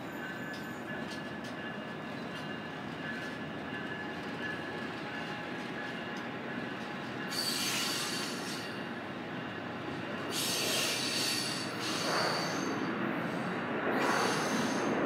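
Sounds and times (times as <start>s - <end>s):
train rumble: 0.0s - 15.0s
train wheels squealing: 0.0s - 15.0s.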